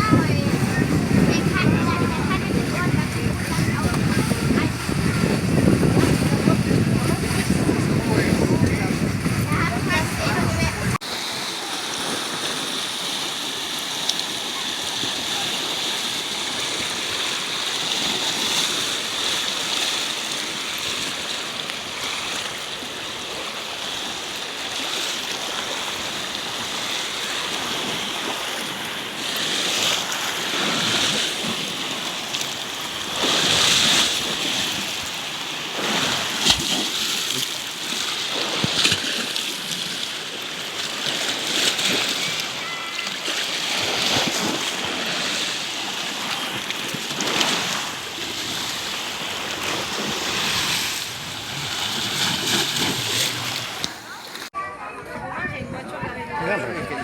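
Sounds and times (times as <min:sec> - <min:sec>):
sea waves washing on shore: 0:00.0 - 0:54.6.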